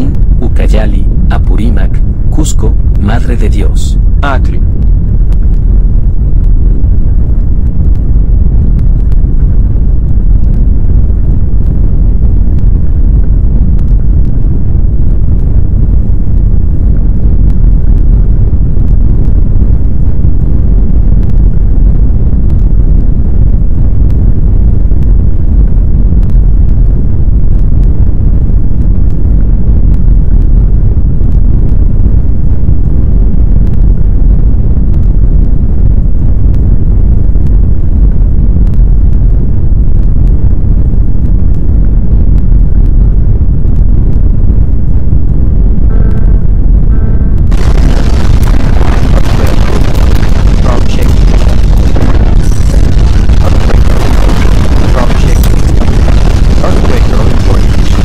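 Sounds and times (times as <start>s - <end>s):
deep earthquake rumble: 0.0s - 58.0s.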